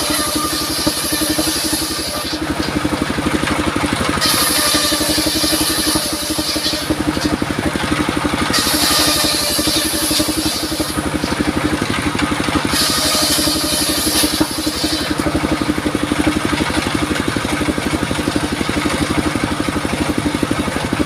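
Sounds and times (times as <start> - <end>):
engine running: 0.0 - 21.0
saw blade cutting wood: 0.0 - 21.0.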